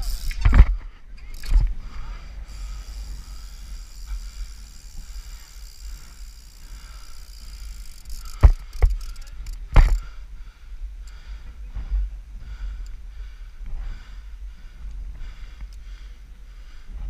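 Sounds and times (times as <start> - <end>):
low rumble of rolling and wind: 0.0 - 17.0.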